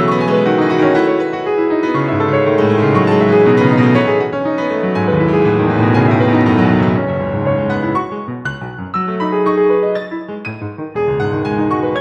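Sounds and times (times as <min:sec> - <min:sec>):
solo piano passage: 0:00.0 - 0:12.0.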